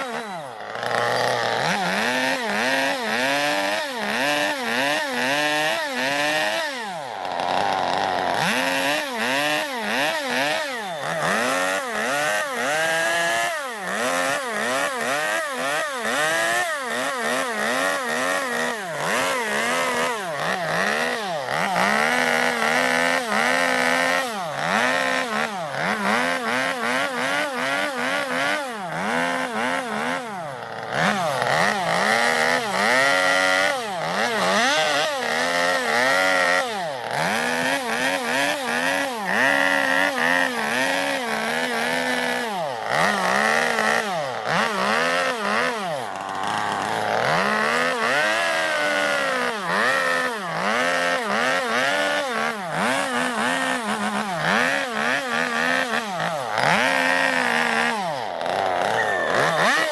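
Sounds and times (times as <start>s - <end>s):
chainsaw revving while cutting wood: 0.0s - 59.9s.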